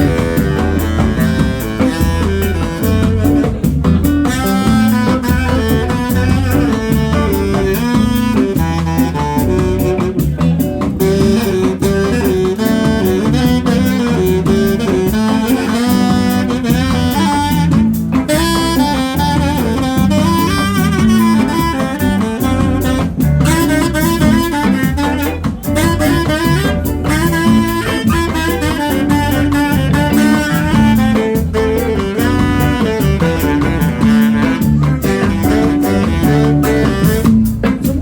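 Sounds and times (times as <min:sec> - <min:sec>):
bass: 0:00.0 - 0:38.0
drums: 0:00.0 - 0:38.0
saxophone melody: 0:00.0 - 0:38.0.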